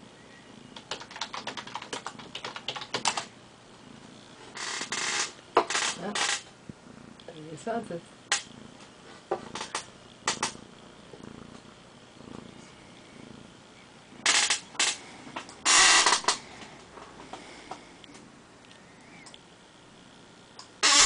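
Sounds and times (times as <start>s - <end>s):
kitten purring softly: 0.0s - 19.4s.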